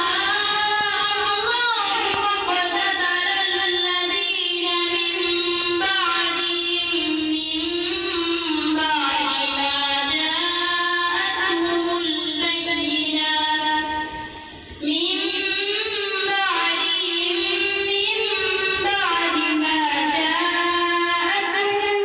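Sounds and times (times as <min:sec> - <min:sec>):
boy chanting into a microphone: 0:00.0 - 0:22.0.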